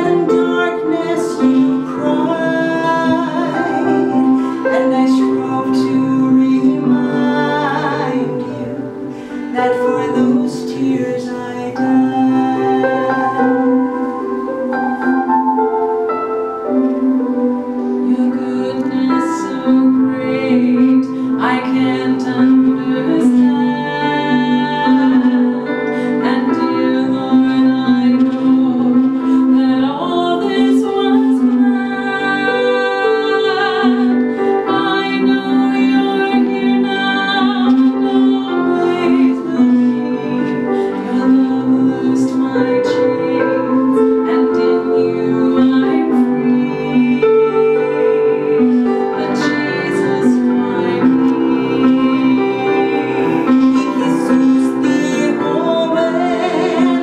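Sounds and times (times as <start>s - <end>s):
two women singing duet: 0.0s - 15.3s, 17.0s - 57.0s
sustained instrumental accompaniment: 0.0s - 57.0s.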